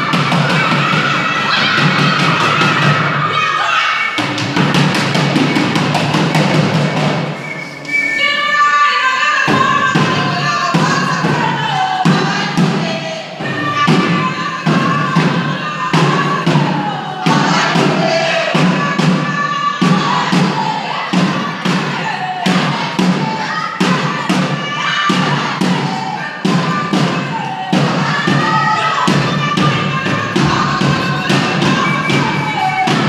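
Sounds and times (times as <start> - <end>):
thudding drum beat: 0.0 - 3.3, 4.2 - 7.4, 9.5 - 33.0
group singing: 0.0 - 33.0.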